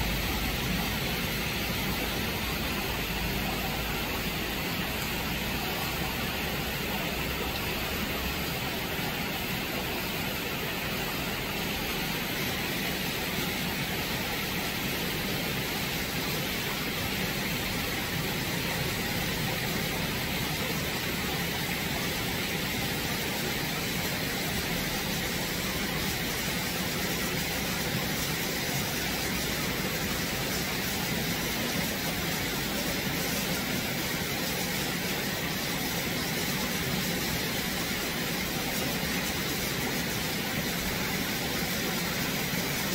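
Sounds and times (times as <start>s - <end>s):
stream flowing over rocks: 0.0s - 42.9s.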